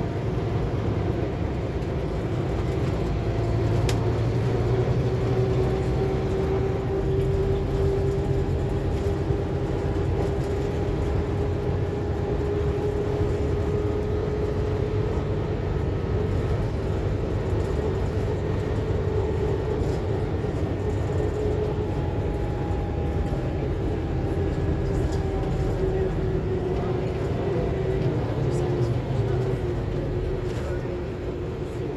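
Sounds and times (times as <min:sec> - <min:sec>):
bus engine and road rumble: 0:00.0 - 0:31.9.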